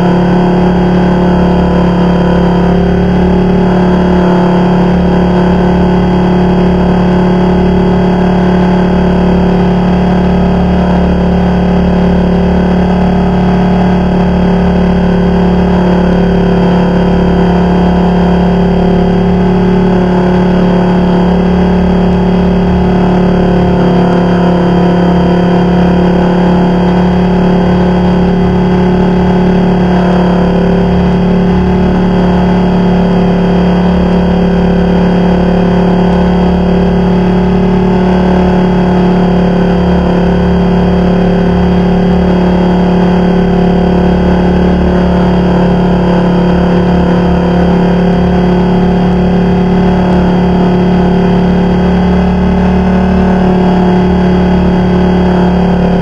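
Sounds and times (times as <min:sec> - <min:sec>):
rc helicopter drone: 0:00.0 - 0:56.0.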